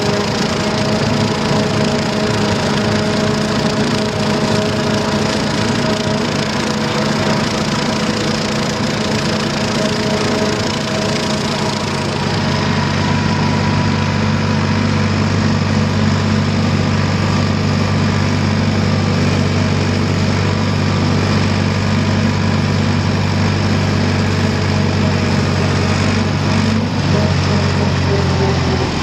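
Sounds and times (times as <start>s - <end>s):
diesel tractor engine running: 0.0s - 29.0s
mower cutting grass: 0.0s - 29.0s.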